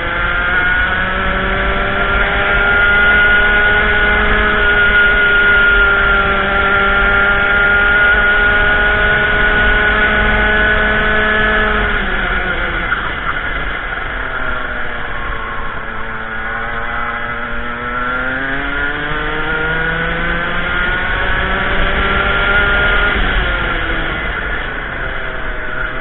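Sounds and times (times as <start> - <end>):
racing kart engine revving: 0.0 - 26.0.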